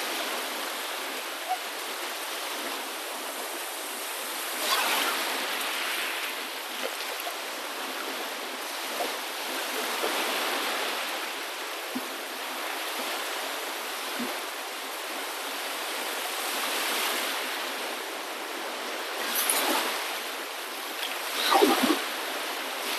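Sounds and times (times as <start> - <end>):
running water rushing: 0.0 - 22.9.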